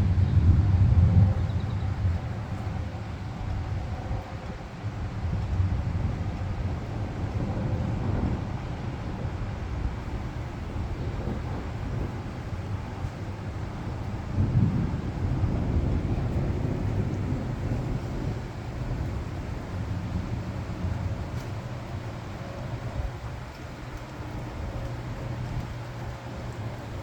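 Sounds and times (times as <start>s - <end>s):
steady rain: 0.0s - 27.0s
thunder rumbling: 0.0s - 27.0s.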